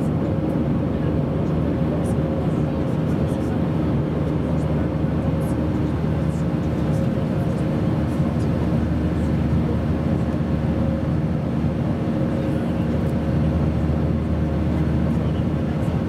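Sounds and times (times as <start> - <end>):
jet engines droning: 0.0 - 16.0.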